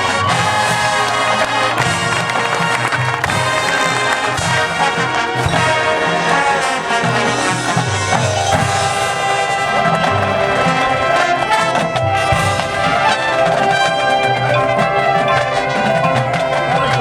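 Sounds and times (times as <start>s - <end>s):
brass section playing chords: 0.0s - 17.0s
drum hits: 0.0s - 17.0s.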